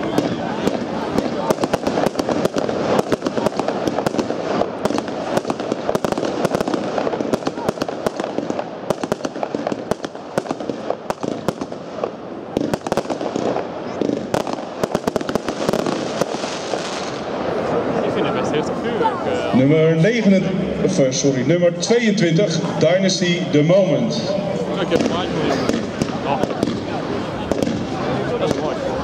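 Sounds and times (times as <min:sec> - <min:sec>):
fireworks bangs: 0:00.0 - 0:18.8, 0:20.0 - 0:29.0.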